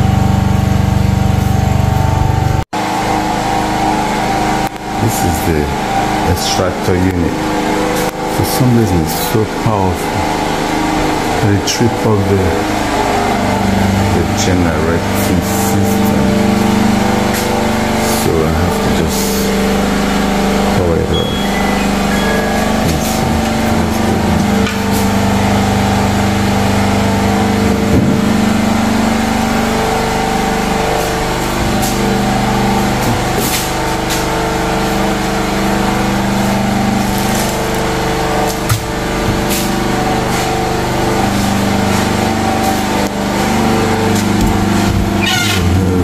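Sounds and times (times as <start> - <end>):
generator engine hum: 0.0 - 46.0.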